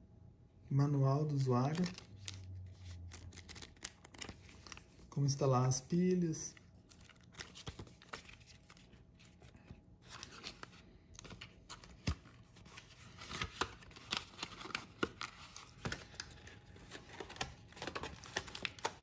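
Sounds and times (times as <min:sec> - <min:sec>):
paper rustling: 0:01.4 - 0:05.1, 0:06.5 - 0:19.0.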